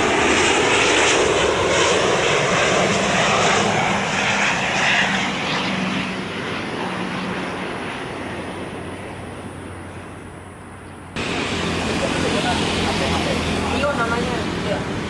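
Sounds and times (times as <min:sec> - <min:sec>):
airliner jet noise: 0:00.0 - 0:15.0.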